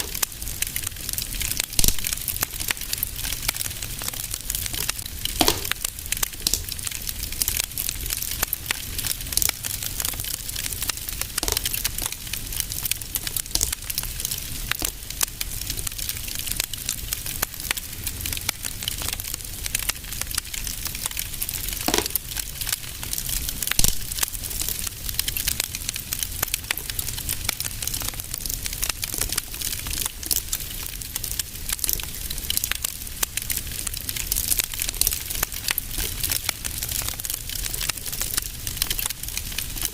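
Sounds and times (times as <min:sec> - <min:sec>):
fire pops: 0:00.0 - 0:39.9
fireplace fire crackling: 0:00.0 - 0:39.9.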